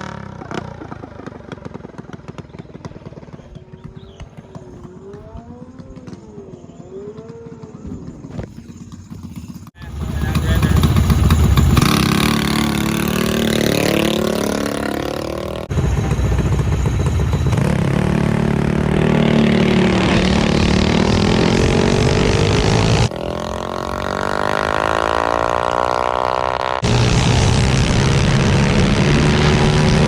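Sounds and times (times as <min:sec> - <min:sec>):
bike engine revving: 0:00.0 - 0:30.0.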